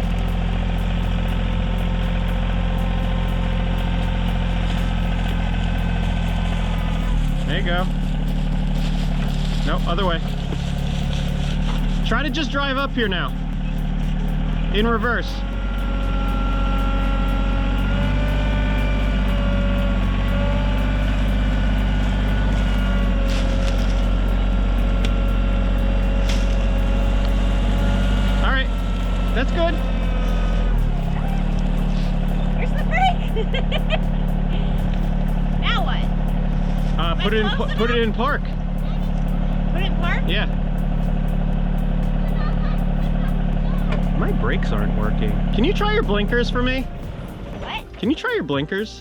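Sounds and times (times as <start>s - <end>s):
faint regular ticking: 0.0s - 49.0s
tractor diesel engine running: 0.0s - 49.0s.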